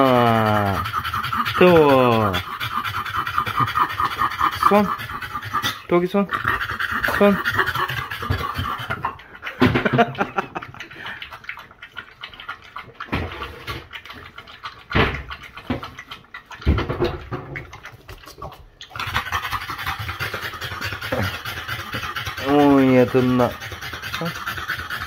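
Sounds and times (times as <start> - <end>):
dog lapping water: 0.0 - 25.0
dog panting hard: 0.0 - 25.0.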